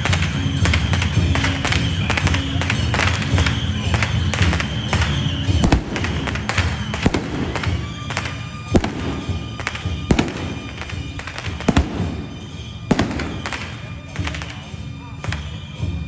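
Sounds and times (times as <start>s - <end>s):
firecracker crackles: 0.0s - 16.0s
firecrackers banging: 0.0s - 16.0s
steady music: 0.0s - 16.0s.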